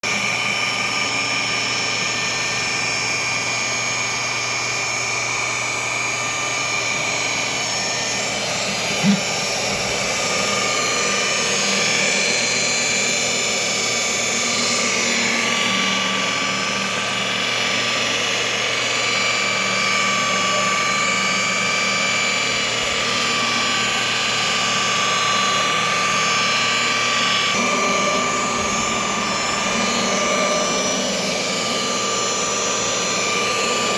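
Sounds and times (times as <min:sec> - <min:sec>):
electric polisher whining: 0:00.0 - 0:33.9.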